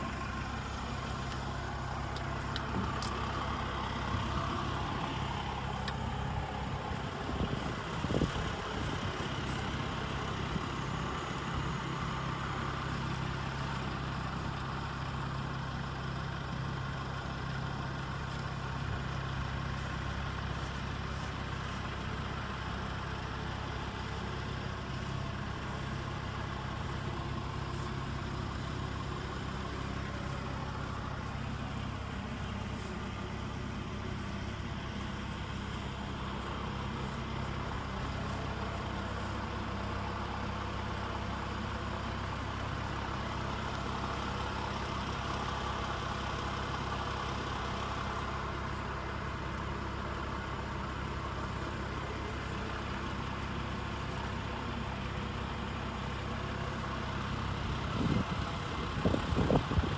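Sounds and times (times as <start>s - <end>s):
tractor diesel engine idling: 0.0s - 59.9s.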